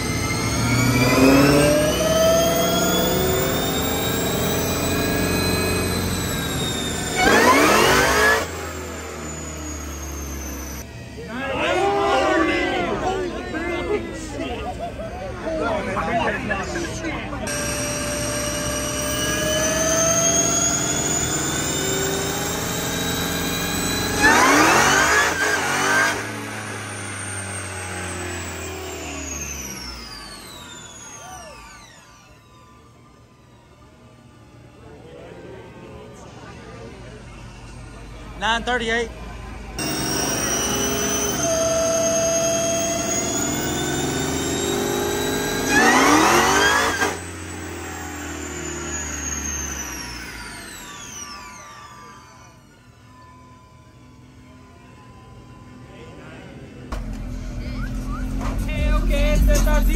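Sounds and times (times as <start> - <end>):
car engine revving: 0.0 - 14.5, 15.8 - 59.9
high whine winding down: 0.0 - 59.9.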